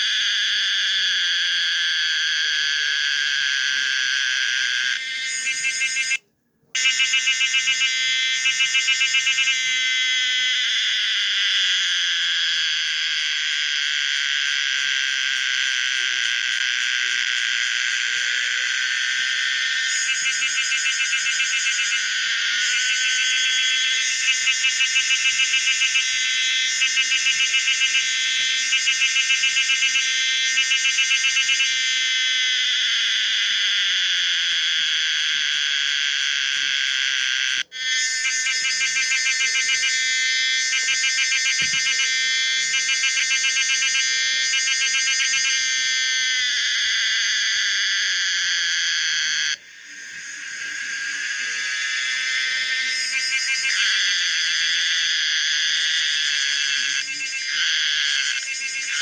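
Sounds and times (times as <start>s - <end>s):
cicada shrill pulsing buzz: 0.0s - 6.2s, 6.8s - 59.0s.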